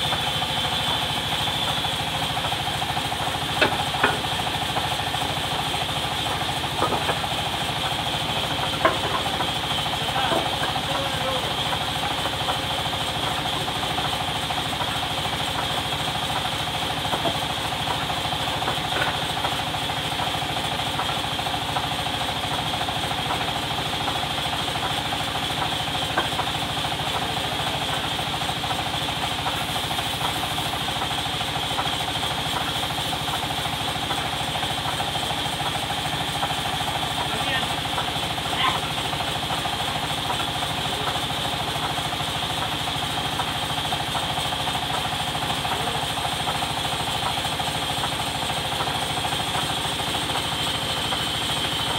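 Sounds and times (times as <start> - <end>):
band sawmill running: 0.0 - 51.9.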